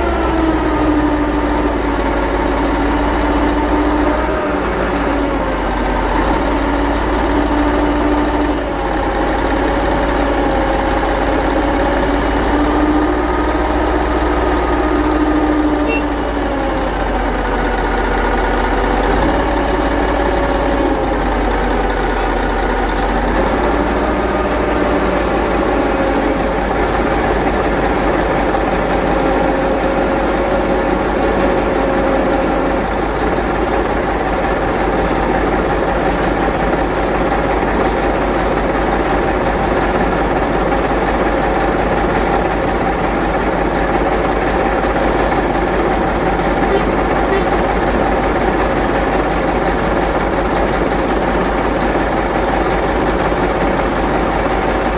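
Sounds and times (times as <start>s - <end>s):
large vehicle engine humming: 0.0s - 54.9s.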